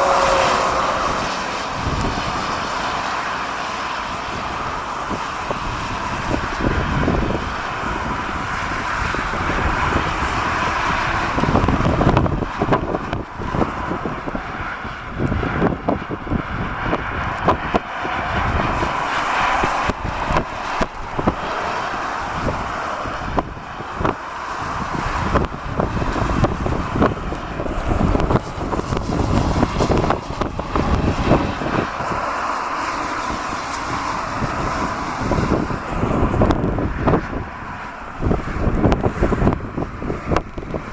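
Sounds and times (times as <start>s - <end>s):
jet engines rumbling and whining: 0.0s - 40.9s
wind buffeting microphone: 0.0s - 40.9s.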